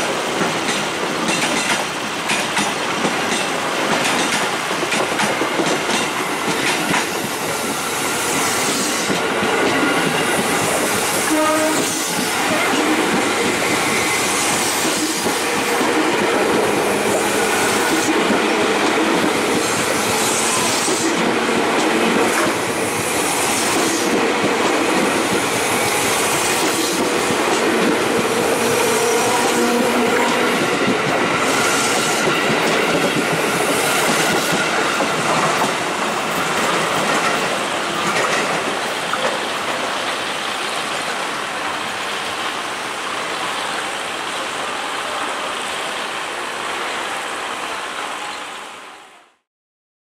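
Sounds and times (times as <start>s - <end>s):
train wheels clattering over rails: 0.0s - 40.3s.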